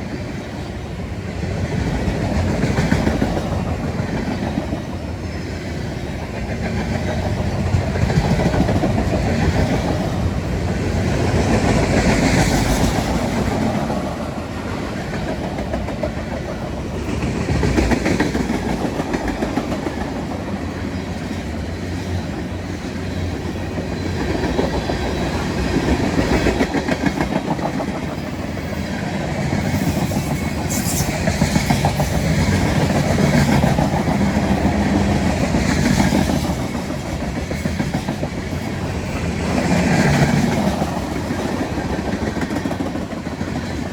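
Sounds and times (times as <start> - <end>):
freight train cars rolling past: 0.0 - 43.9.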